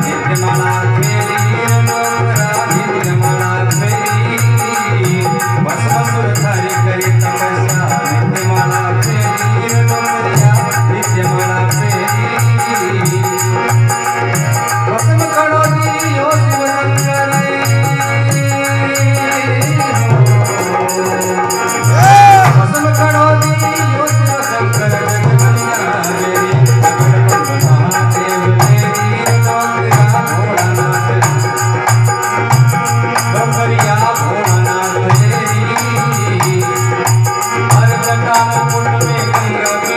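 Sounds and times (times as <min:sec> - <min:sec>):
folk melody: 0:00.0 - 0:39.9
rhythmic drum pulse: 0:00.0 - 0:39.9.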